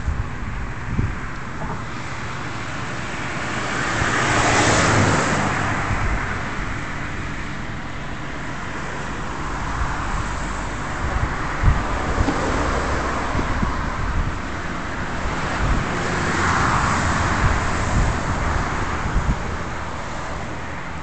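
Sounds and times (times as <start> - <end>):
steady traffic hum: 0.0 - 21.0.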